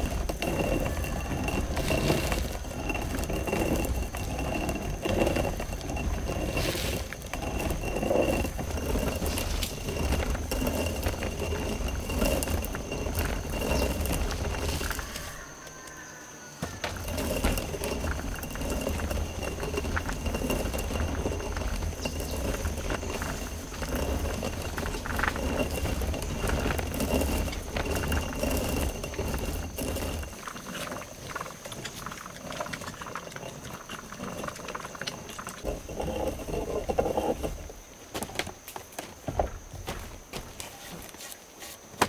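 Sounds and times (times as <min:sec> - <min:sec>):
scraping and knocks on stone: 0:00.0 - 0:16.0, 0:16.6 - 0:42.0
stone mill grinding: 0:00.0 - 0:41.9.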